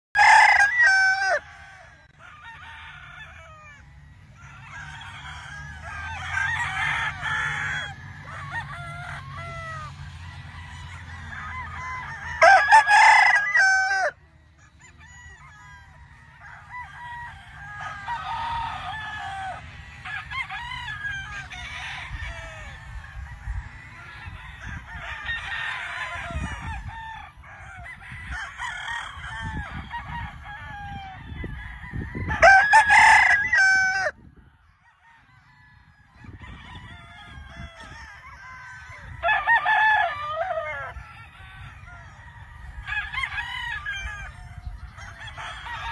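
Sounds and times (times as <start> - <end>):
roosters crowing: 0.2 - 45.9.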